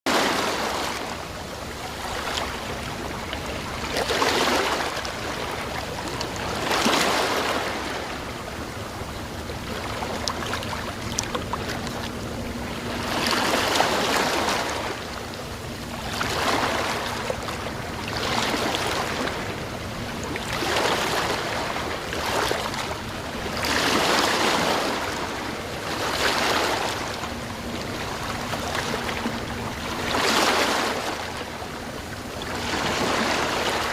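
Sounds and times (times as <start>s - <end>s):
sea waves breaking: 0.1s - 33.9s.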